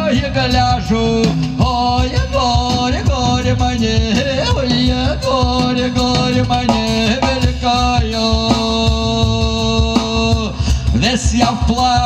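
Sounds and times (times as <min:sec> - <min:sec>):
cajon: 0:00.0 - 0:12.0
double bass: 0:00.0 - 0:12.0
man singing: 0:00.0 - 0:12.0.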